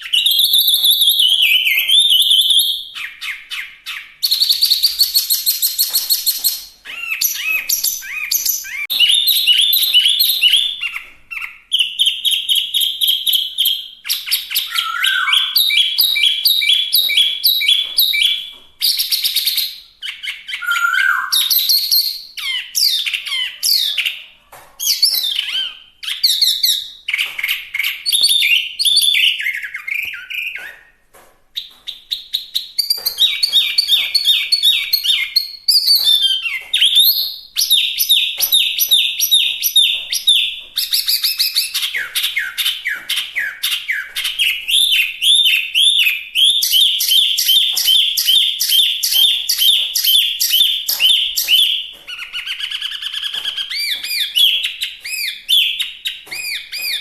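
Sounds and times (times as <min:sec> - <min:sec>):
bird singing whistled trills: 0:00.0 - 0:24.2, 0:31.6 - 0:57.0.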